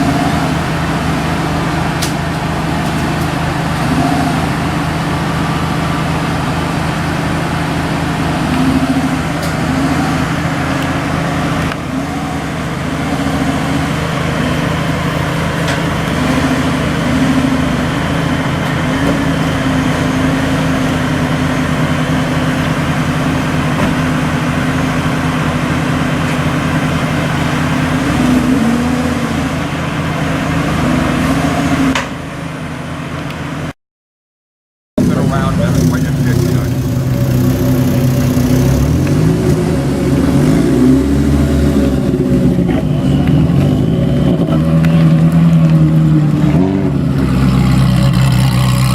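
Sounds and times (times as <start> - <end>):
car engine idling: 0.0 - 30.8, 35.0 - 48.9.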